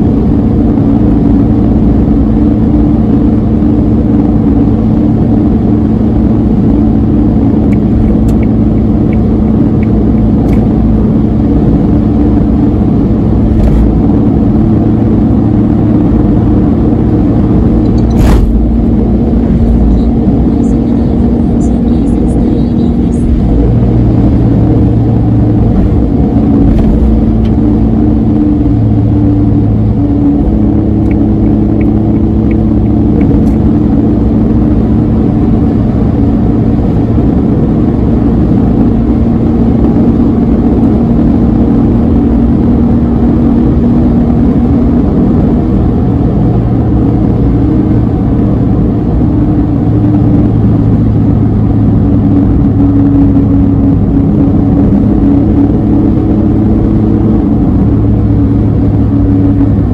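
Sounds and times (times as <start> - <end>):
small car engine droning: 0.0 - 59.9
tyre and road noise: 0.0 - 59.9.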